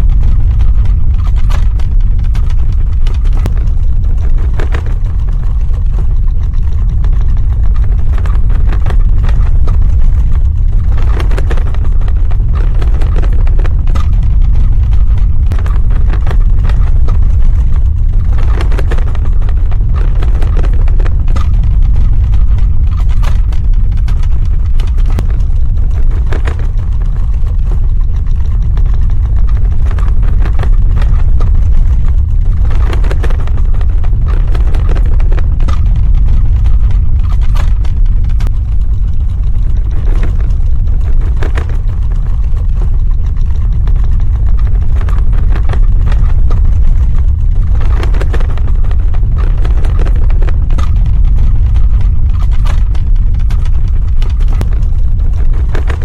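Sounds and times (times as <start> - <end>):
crackling and rattling: 0.0 - 56.0
deep earthquake rumble: 0.0 - 56.0.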